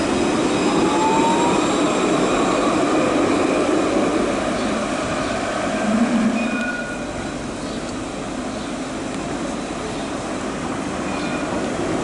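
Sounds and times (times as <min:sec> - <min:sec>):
tram rumbling past: 0:00.0 - 0:12.0.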